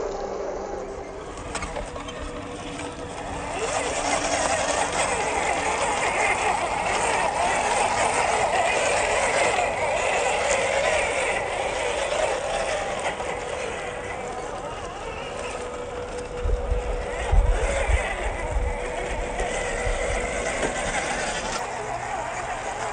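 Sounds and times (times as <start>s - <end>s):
toy truck motor whirring: 0.0s - 22.9s.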